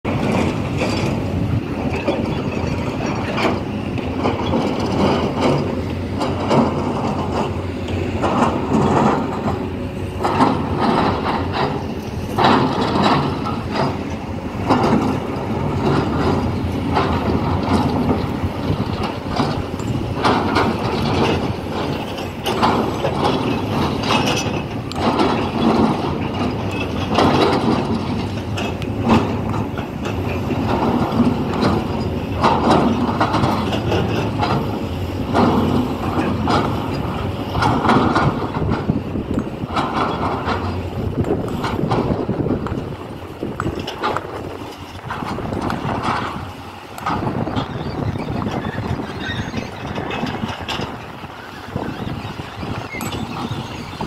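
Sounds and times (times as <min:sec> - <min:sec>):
diesel engines of heavy machinery: 0:00.0 - 0:54.0.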